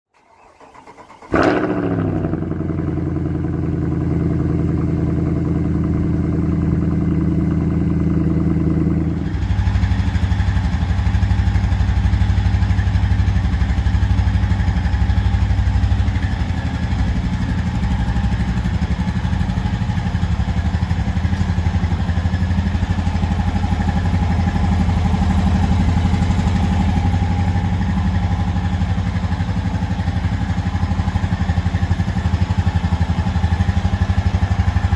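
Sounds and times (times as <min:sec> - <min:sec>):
atv engine starting and idling: 0:00.1 - 0:34.9.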